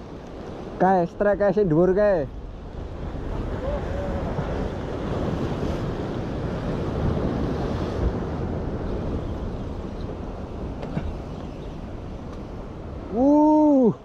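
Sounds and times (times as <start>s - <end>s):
wind buffeting microphone: 2.1s - 14.0s.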